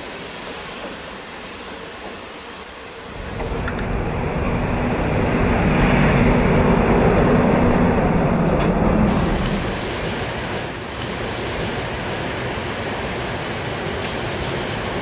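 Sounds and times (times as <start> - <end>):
electric locomotive rumble and hum: 0.0 - 15.0
train rolling noise: 0.0 - 15.0.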